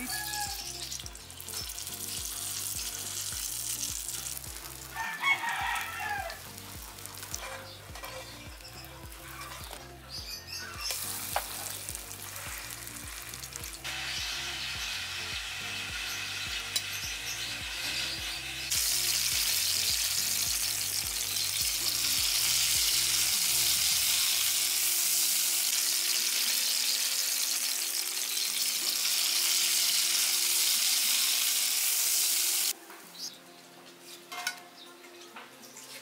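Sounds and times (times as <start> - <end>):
patties sizzling in oil: 0.0 - 32.8.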